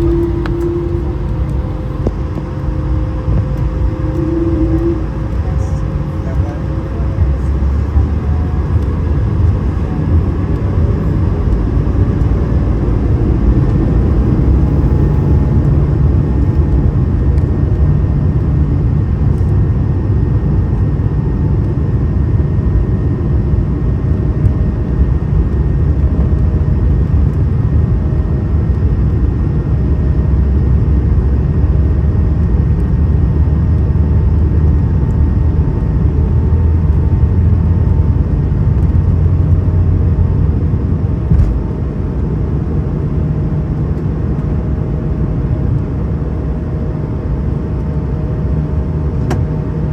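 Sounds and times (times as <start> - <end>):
aircraft cabin rumble: 0.0 - 49.9
faint steady whine: 0.0 - 49.9.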